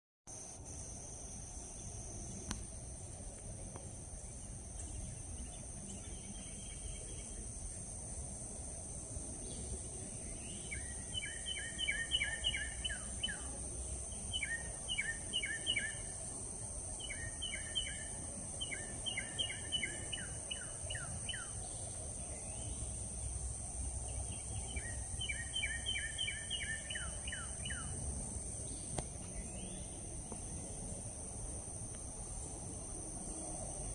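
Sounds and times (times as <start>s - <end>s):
high insect buzz: 0.3s - 33.9s.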